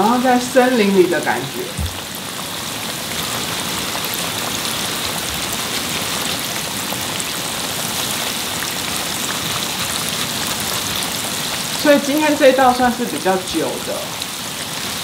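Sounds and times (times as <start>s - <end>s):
chicken deep-frying in hot oil: 0.0s - 15.0s.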